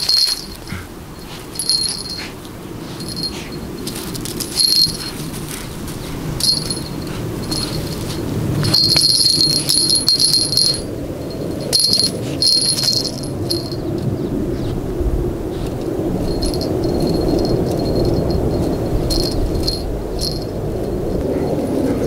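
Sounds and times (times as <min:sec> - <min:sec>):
small bell jingling: 0:00.0 - 0:14.2, 0:16.1 - 0:22.0.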